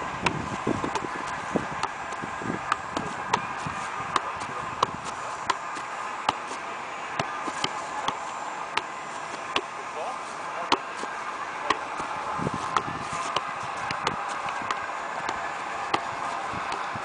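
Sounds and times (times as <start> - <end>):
soccer ball thumps: 0.0 - 10.0, 10.6 - 17.0.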